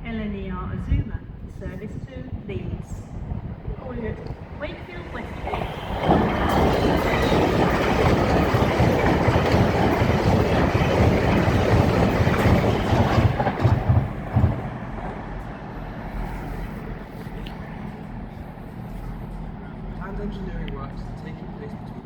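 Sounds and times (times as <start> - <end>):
train rumbling past on rails: 0.0 - 22.0.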